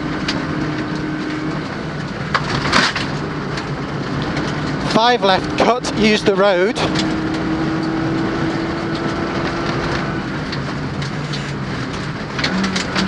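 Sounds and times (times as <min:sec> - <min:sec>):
gravel and tyre noise: 0:00.0 - 0:13.0
rally car engine: 0:00.0 - 0:13.0.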